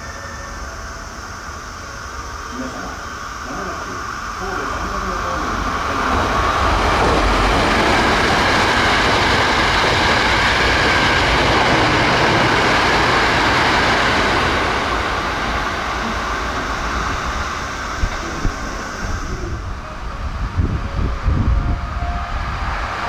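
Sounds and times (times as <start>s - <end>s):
electric train passing at speed: 0.0s - 23.0s.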